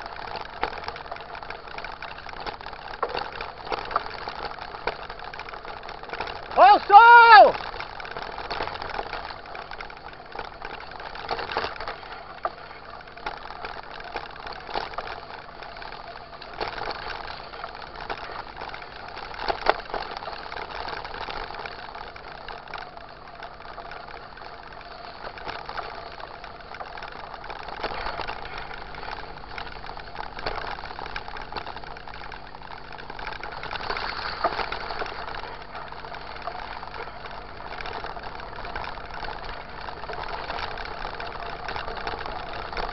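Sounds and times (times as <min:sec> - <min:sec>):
bike rattling and knocking: 0:00.0 - 0:42.9
bike tyres rolling on dirt: 0:00.0 - 0:42.9.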